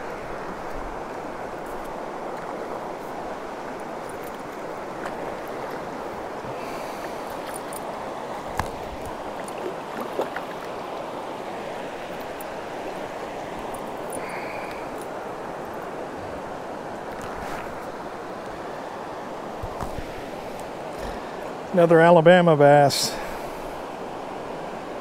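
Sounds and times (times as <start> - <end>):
stream water over rocks: 0.0 - 25.0.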